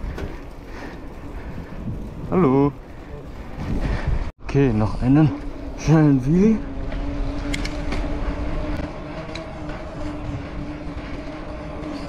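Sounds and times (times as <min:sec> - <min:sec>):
wind rumble on microphone: 0:00.0 - 0:04.4, 0:05.2 - 0:12.0
bike rolling hum: 0:00.0 - 0:12.0.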